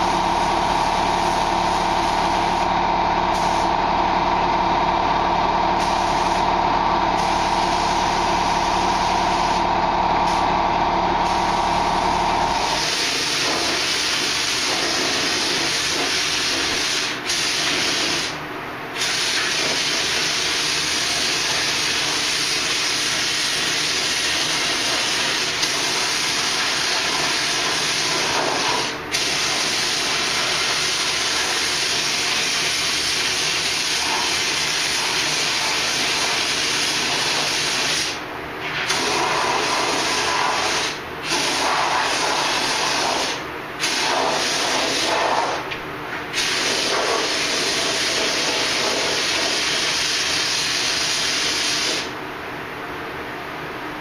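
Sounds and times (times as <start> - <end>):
paint spray gun hissing: 0.0 - 3.9, 5.7 - 6.5, 7.1 - 18.4, 19.0 - 45.6, 46.3 - 52.1.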